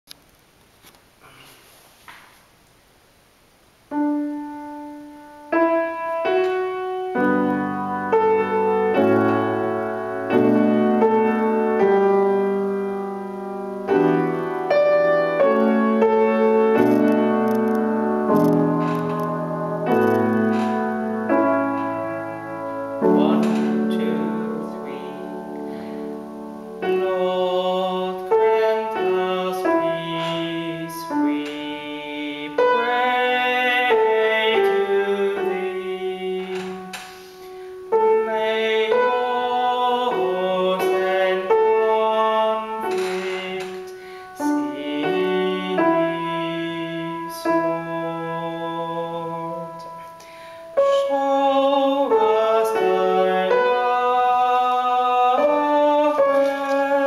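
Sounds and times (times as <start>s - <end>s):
electric keyboard playing choral piece: 3.9s - 57.0s.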